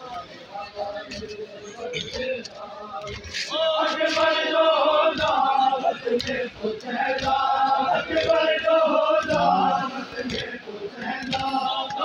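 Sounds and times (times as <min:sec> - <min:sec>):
men chanting a lament: 0:00.0 - 0:12.0
dull beat: 0:01.1 - 0:12.0.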